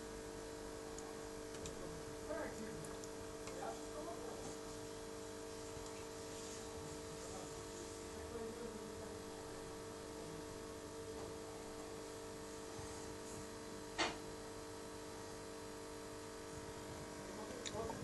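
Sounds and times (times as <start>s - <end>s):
aquarium equipment humming: 0.0s - 18.0s.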